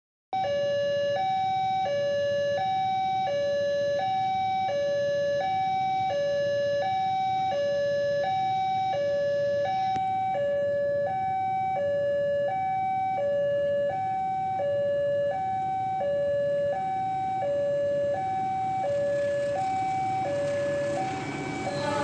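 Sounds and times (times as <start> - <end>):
level crossing alarm ding-dong: 0.4 - 22.0.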